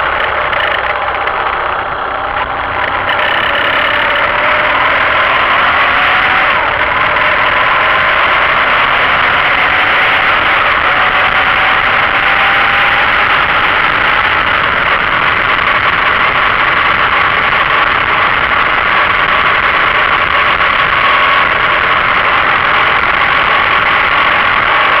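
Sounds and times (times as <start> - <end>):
faint motorcycle engine: 0.0 - 25.0.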